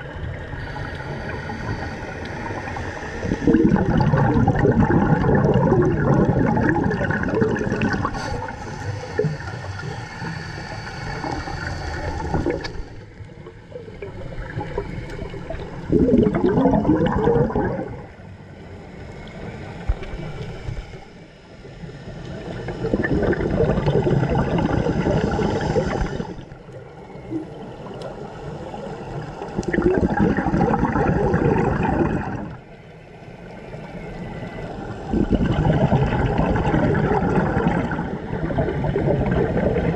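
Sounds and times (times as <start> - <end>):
underwater exhaled bubbles gurgling: 0.0 - 39.9.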